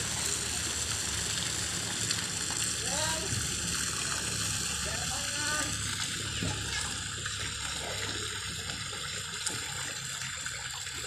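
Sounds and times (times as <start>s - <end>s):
swimmer splashing: 0.0s - 11.0s
water rushing: 0.0s - 11.0s.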